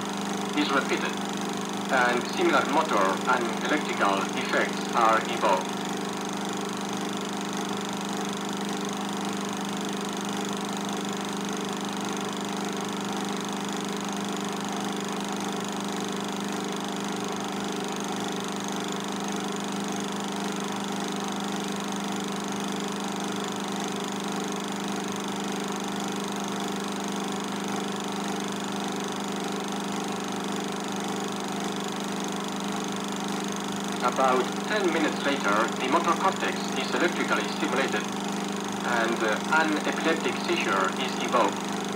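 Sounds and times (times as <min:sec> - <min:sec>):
film projector running: 0:00.0 - 0:41.9.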